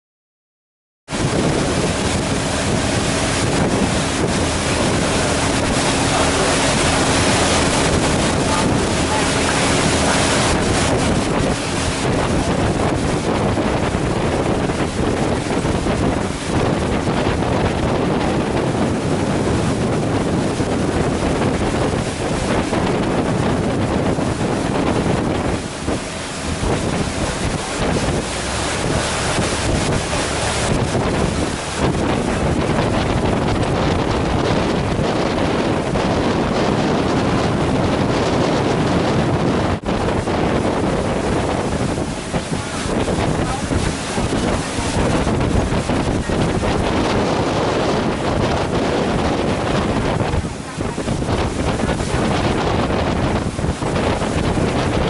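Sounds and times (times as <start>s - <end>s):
boat engine hum: 1.1s - 55.0s
water rushing: 1.1s - 55.0s
wind buffeting microphone: 1.1s - 55.0s.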